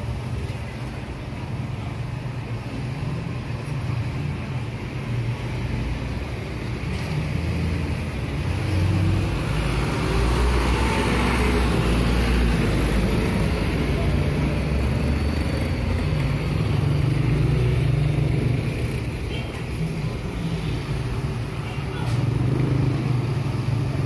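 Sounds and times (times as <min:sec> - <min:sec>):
passing vehicles rumbling: 0:00.0 - 0:24.0.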